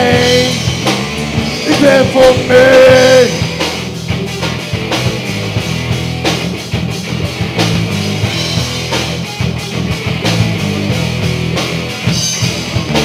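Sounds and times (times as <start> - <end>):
distorted electric guitars: 0.0 - 13.0
drum kit beat: 0.0 - 13.0.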